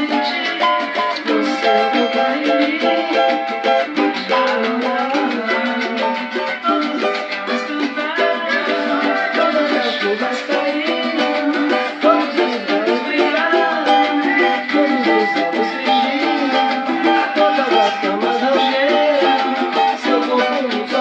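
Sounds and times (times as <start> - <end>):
plucked cavaquinho melody: 0.0 - 21.0.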